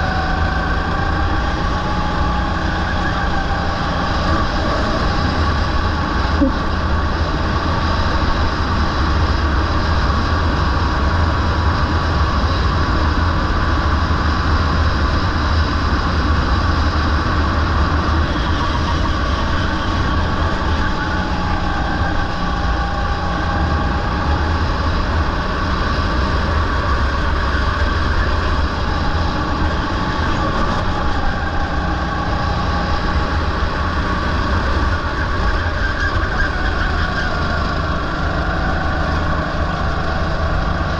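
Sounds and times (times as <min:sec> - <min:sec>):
go-kart engine rumble: 0:00.0 - 0:40.9
wind noise: 0:00.0 - 0:40.9.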